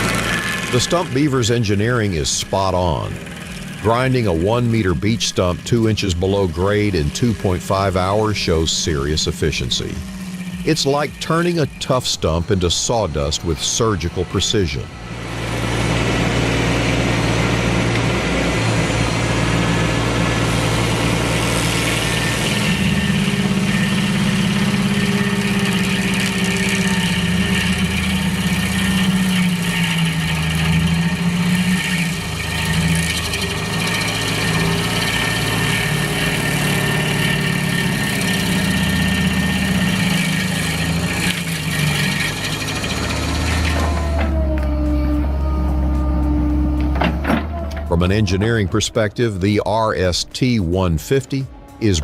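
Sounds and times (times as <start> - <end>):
heavy machinery engine running: 0.0 - 52.0.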